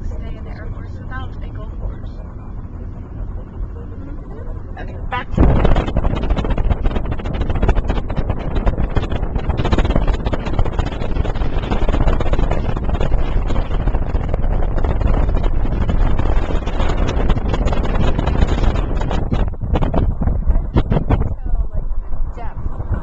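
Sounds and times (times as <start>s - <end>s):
car road noise: 0.0s - 23.0s
wind buffeting microphone: 0.0s - 23.0s.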